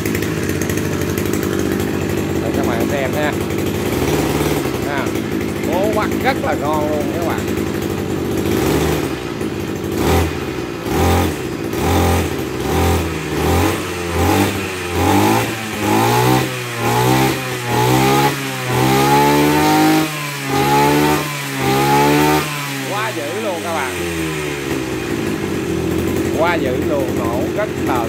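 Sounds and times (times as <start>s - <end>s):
brush cutter engine revving: 0.0s - 28.0s.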